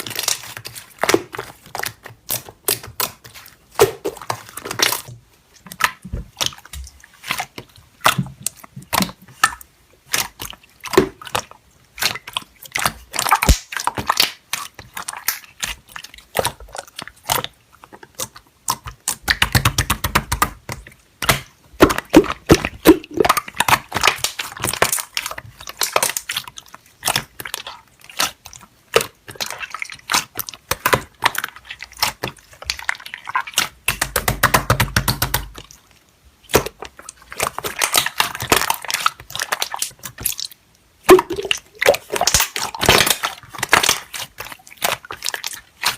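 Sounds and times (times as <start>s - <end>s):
slime squished by hand: 0.0s - 35.8s, 36.4s - 45.9s.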